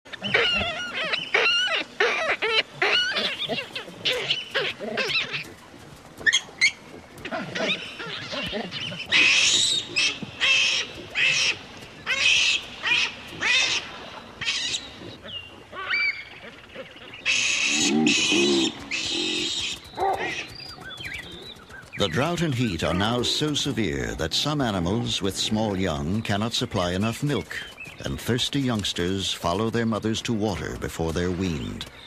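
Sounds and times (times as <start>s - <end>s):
animal calls: 0.1s - 29.6s.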